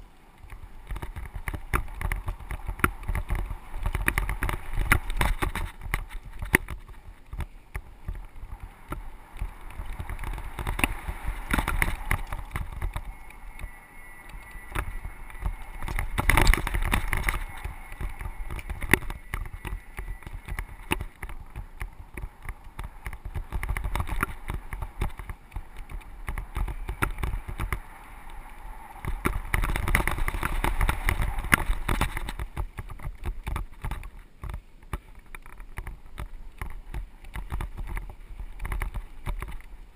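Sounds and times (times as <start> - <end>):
bike tyres on dirt: 0.0 - 39.9
bike rattling clicks and knocks: 0.4 - 39.9.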